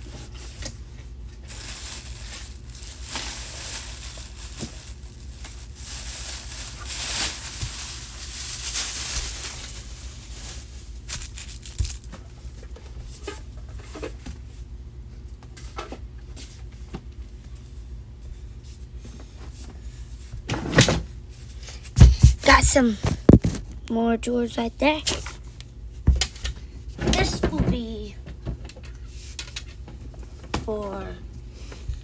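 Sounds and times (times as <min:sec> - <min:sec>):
rustling and crinkling objects: 0:00.0 - 0:20.5, 0:21.1 - 0:23.8, 0:24.9 - 0:32.0.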